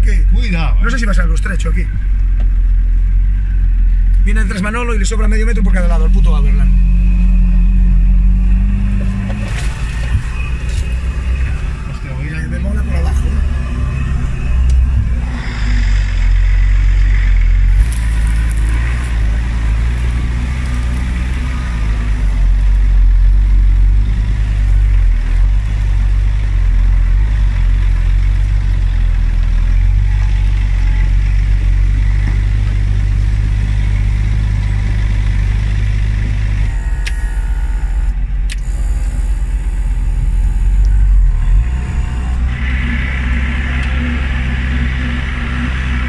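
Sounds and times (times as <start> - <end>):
vehicle engine rumble from inside: 0.0 - 46.0.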